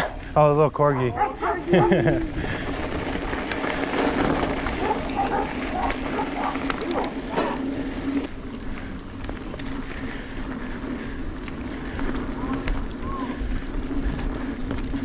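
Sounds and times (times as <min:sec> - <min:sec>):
bike tyres rolling on dirt: 0:00.0 - 0:15.0.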